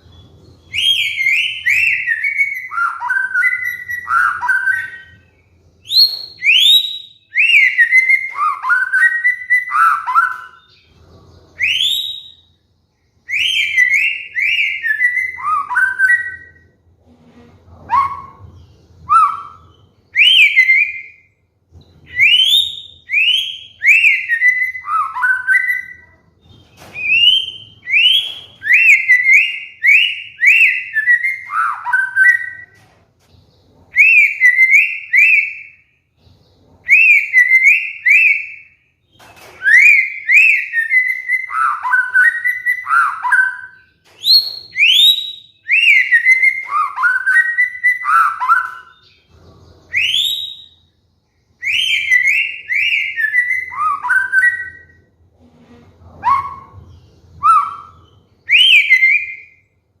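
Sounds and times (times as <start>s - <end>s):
bird singing whistled phrases: 0.0s - 10.9s, 11.5s - 12.6s, 13.2s - 16.7s, 17.7s - 21.4s, 22.0s - 32.8s, 33.9s - 36.0s, 36.8s - 38.8s, 39.6s - 50.9s, 51.6s - 55.1s, 56.1s - 59.7s.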